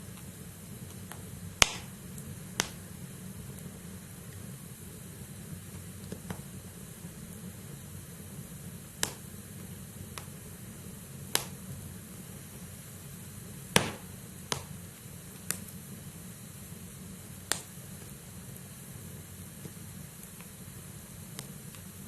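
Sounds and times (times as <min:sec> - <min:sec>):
burning logs popping: 0:00.0 - 0:22.0
low rumble of flames: 0:00.0 - 0:22.0.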